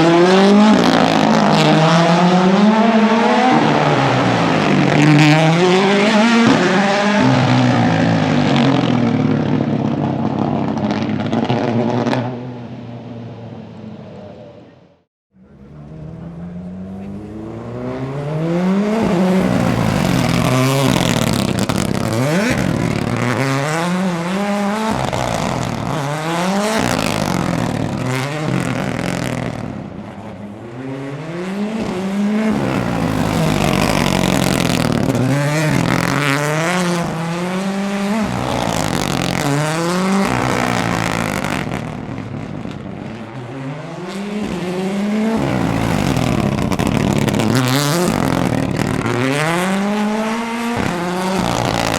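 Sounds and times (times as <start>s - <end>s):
rally car engine revving: 0.0s - 14.8s, 15.4s - 51.9s.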